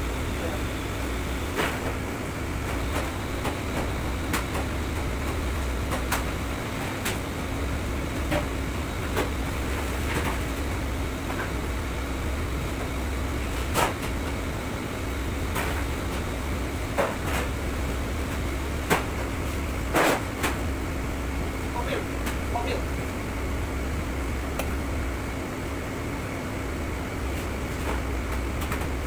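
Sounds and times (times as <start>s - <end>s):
ventilation hum: 0.0s - 29.0s.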